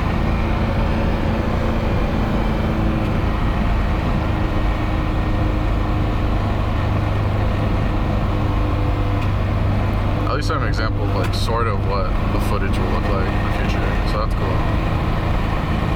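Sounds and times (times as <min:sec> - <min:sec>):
car engine and exhaust drone: 0:00.0 - 0:15.9.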